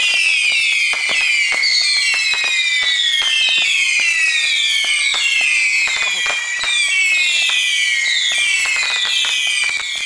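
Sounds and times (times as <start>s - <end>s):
fireworks crackling pops: 0.0s - 10.0s
fireworks whistling: 0.0s - 10.0s.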